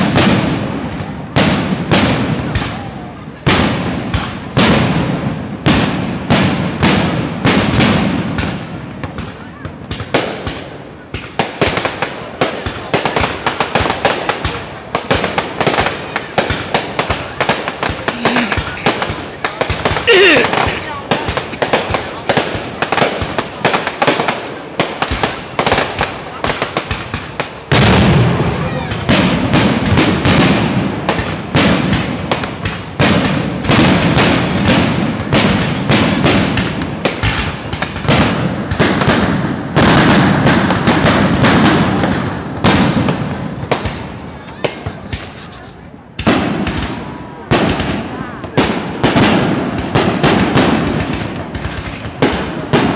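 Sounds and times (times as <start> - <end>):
fireworks bursting: 0.0 - 52.9
fireworks crackling: 0.0 - 52.9.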